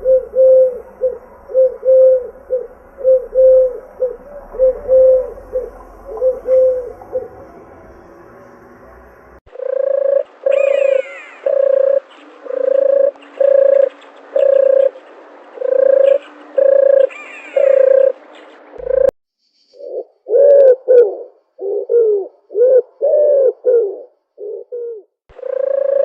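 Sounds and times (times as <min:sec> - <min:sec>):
dove cooing: 0:00.0 - 0:07.7, 0:09.5 - 0:18.2, 0:18.8 - 0:19.1, 0:19.8 - 0:26.0.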